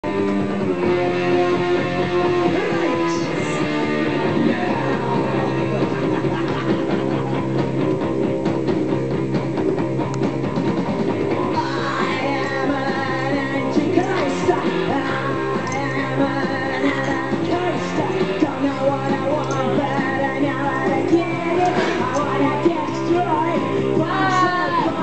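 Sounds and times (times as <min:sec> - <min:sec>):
bass line: 0:00.0 - 0:25.0
electric guitar chords strummed: 0:00.0 - 0:25.0.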